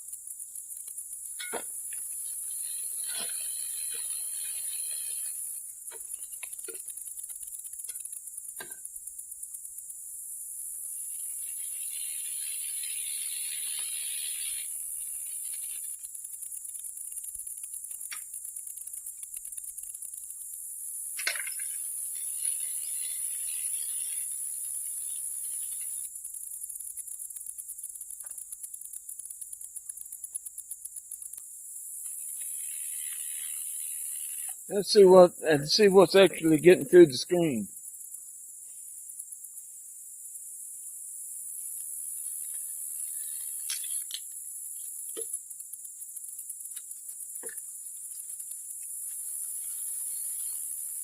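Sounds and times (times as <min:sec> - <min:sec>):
insect chirping: 0:00.0 - 0:51.0
steady high hiss: 0:00.0 - 0:51.0.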